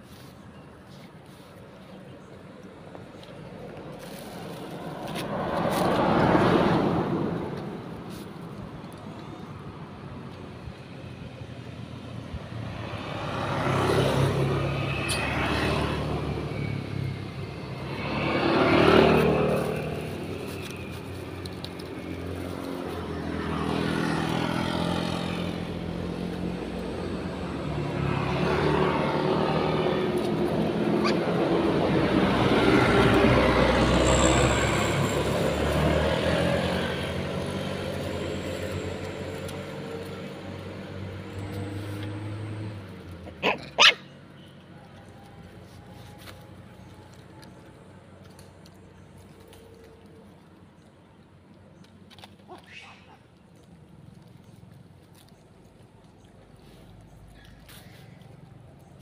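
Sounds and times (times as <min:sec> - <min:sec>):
vehicles passing on road: 0:00.0 - 0:59.0.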